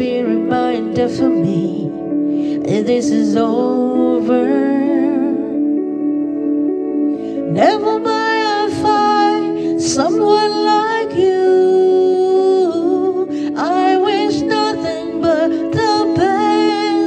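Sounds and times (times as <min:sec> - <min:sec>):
person singing a slow ballad: 0:00.0 - 0:17.0.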